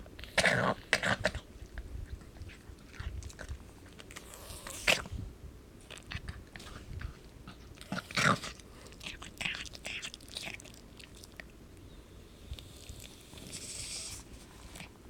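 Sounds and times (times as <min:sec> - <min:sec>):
dog chewing and crunching food: 0:00.0 - 0:05.2, 0:05.8 - 0:15.0.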